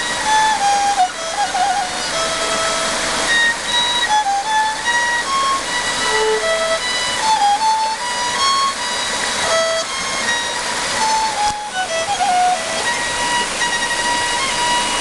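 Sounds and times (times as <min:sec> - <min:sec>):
solo violin melody: 0:00.0 - 0:15.0
waterfall rushing: 0:00.0 - 0:15.0.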